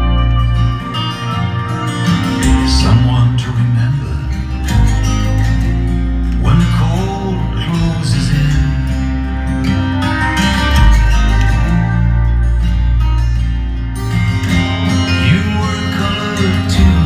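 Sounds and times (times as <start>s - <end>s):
deep sustained bass notes: 0.0s - 17.0s
plucked guitar music: 0.0s - 17.0s.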